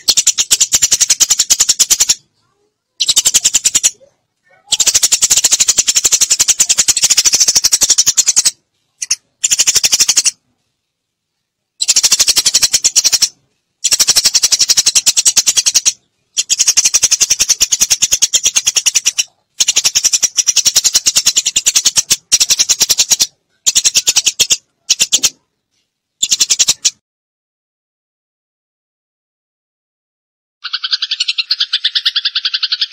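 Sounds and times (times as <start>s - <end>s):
sparrows chirping: 0.0s - 10.4s, 11.8s - 25.5s, 26.2s - 27.0s, 30.6s - 32.9s.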